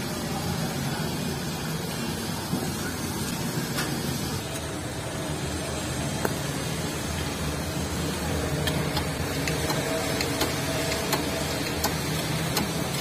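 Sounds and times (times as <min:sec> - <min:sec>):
press mechanical hum: 0:00.0 - 0:13.0.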